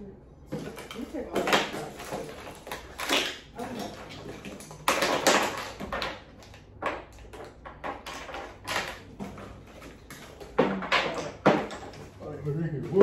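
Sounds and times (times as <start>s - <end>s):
plastic containers clattering: 0.4s - 13.0s.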